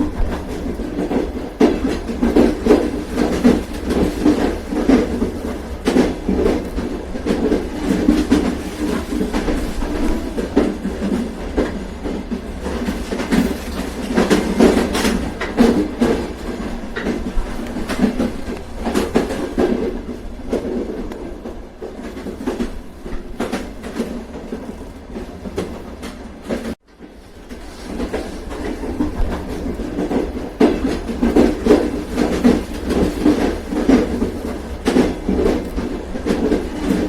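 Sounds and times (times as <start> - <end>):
train rumble: 0.0 - 37.0
wheels clacking over rail joints: 0.0 - 37.0.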